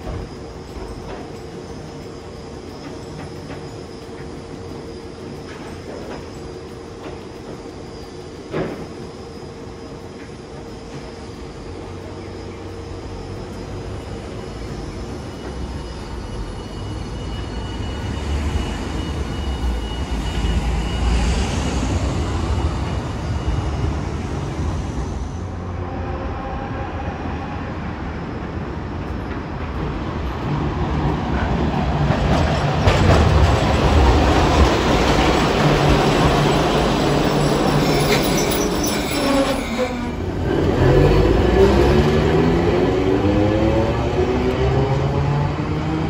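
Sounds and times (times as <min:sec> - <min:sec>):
tram motor whine: 0:00.0 - 0:46.0
tram wheels on rails: 0:00.0 - 0:46.0.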